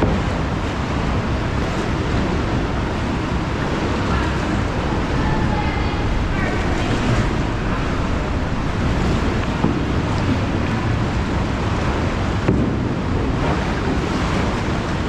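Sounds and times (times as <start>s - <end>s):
sea water washing: 0.0s - 15.0s
wind rumbling on microphone: 0.0s - 15.0s.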